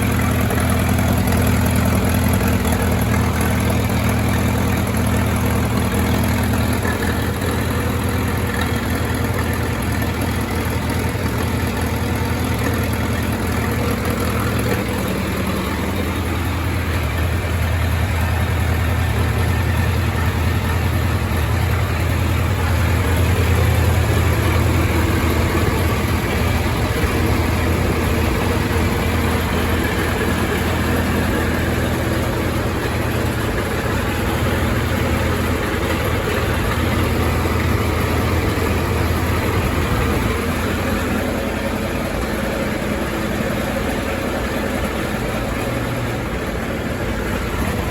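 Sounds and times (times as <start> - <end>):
tractor engine idling: 0.0 - 47.9.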